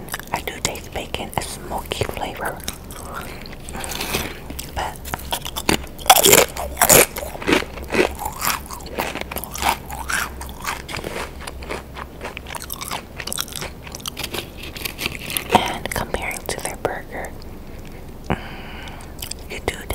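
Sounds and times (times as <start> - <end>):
potato crisp crunching: 0.0 - 16.7, 19.0 - 19.5
chewing crunches: 0.0 - 18.1, 18.9 - 19.8.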